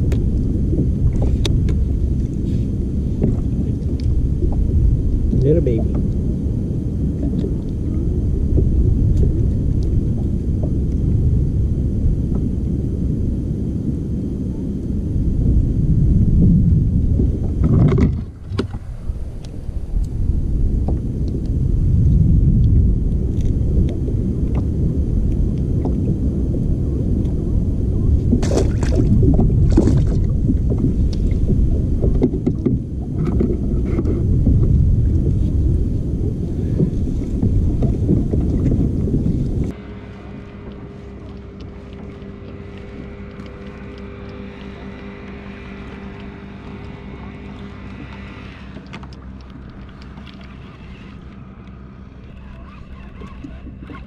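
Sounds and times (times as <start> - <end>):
faint steady tones: 0.0 - 54.0
steady hum: 0.0 - 54.0
wind and water rumble: 0.0 - 54.0.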